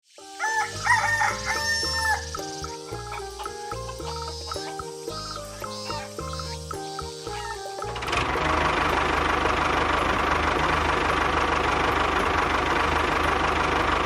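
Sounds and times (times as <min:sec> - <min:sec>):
small motor pulsing hum: 0:01.8 - 0:14.0.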